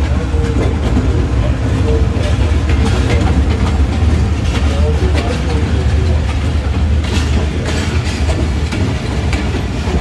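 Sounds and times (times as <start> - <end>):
train coaches rumbling past: 0.0 - 10.0
wheel clacks over rail joints: 0.0 - 10.0.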